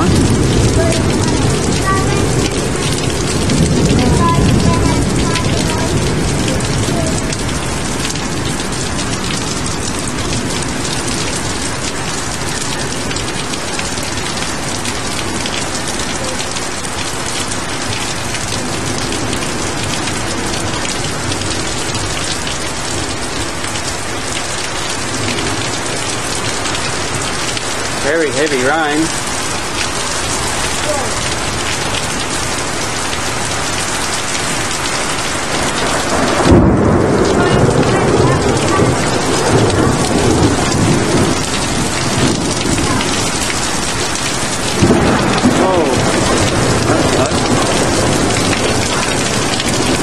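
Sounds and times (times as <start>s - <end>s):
heavy rain pouring: 0.0s - 50.0s
thunder rumbling: 0.0s - 50.0s.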